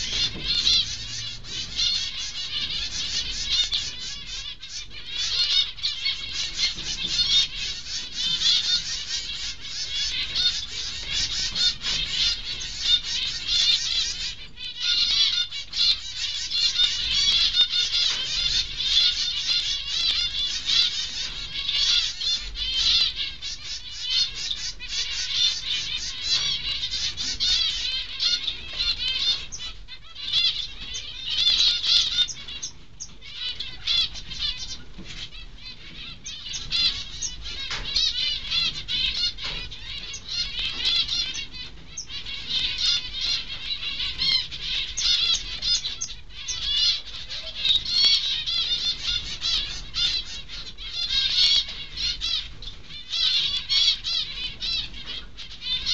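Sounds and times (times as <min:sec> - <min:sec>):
finches chirping: 0:00.0 - 0:55.9.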